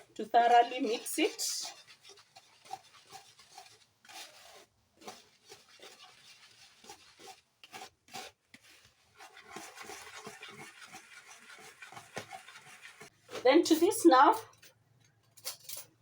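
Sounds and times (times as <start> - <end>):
utensil stirring dry mix in bowl: 0.0 - 14.8.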